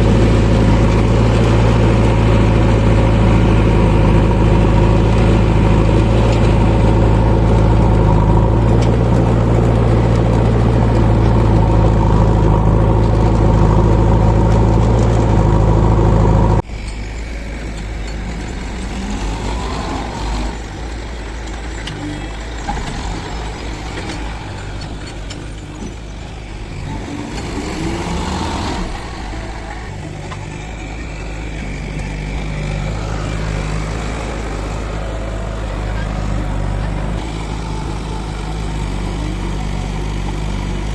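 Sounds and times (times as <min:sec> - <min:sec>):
distant engine rising and falling: 0:00.0 - 0:40.9
loud diesel engine close by: 0:00.0 - 0:40.9.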